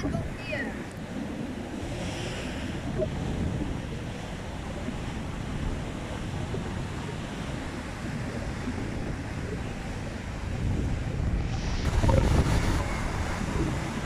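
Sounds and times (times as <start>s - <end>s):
surf washing over concrete: 0.0s - 14.0s
wind rumbling on microphone: 0.0s - 14.0s.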